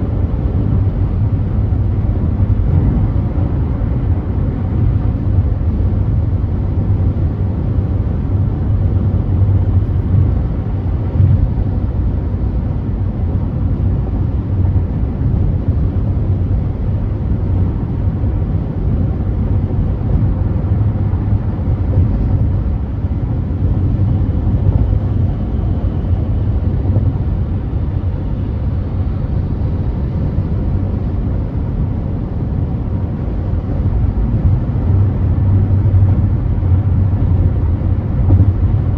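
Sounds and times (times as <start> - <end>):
car tyre and road noise: 0.0 - 38.9.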